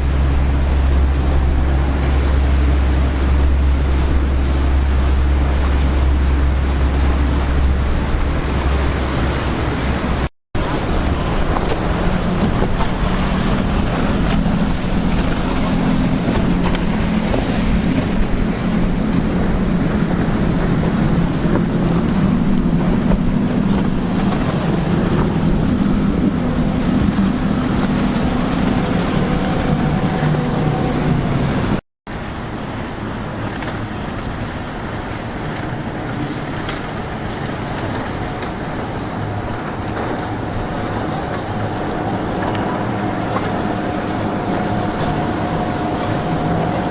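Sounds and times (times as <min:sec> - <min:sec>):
motorboat engines droning: 0:00.0 - 0:46.9
water washing: 0:00.0 - 0:46.9
wind: 0:00.0 - 0:46.9.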